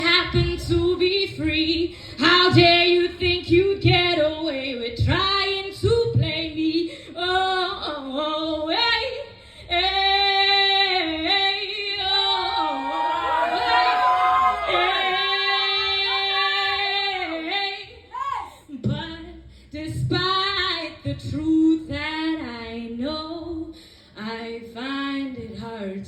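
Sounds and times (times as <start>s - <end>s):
woman singing: 0.0s - 13.7s, 14.6s - 26.0s.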